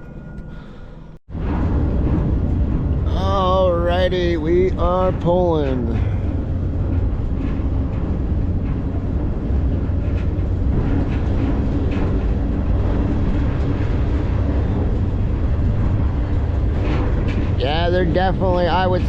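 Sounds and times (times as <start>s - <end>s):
train cars rumbling: 0.0s - 19.0s.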